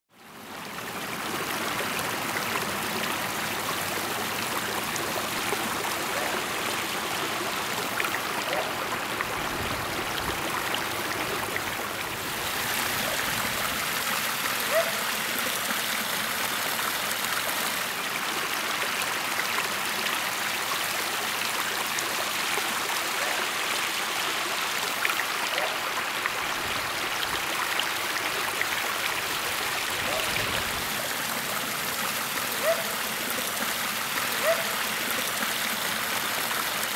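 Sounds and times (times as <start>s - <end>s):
waterfall splashing over rocks: 0.2s - 36.9s.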